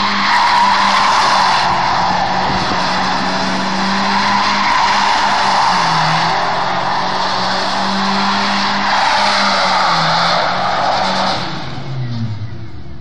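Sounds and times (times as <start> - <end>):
tyres squealing: 0.0 - 12.2
car engine revving high: 0.0 - 12.5.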